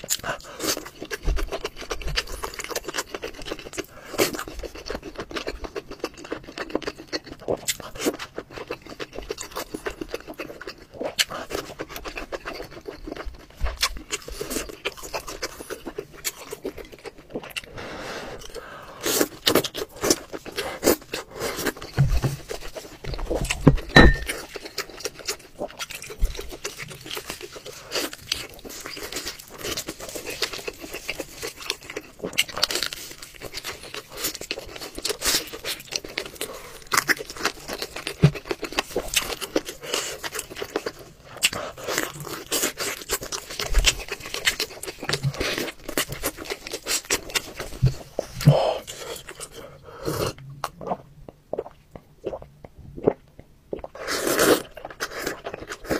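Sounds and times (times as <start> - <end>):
chewing and lip-smacking: 0.0 - 17.8, 18.4 - 55.9.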